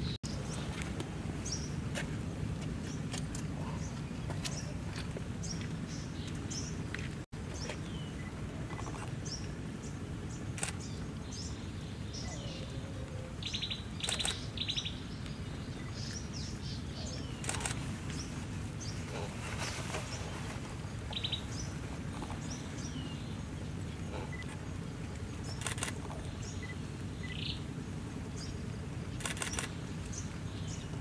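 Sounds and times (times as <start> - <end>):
forest birds chirping: 0.0 - 31.0.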